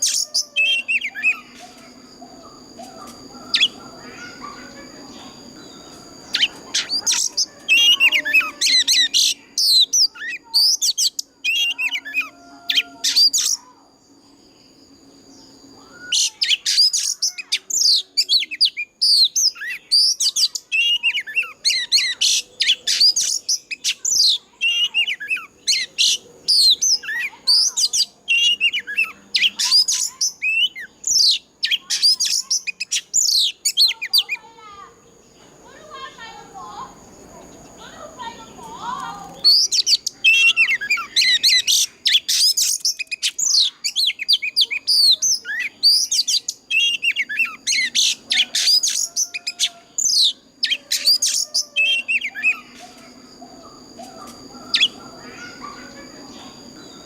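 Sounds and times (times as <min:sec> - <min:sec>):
bird singing whistled notes: 0:00.0 - 0:13.8, 0:14.4 - 0:34.4, 0:38.9 - 0:57.0.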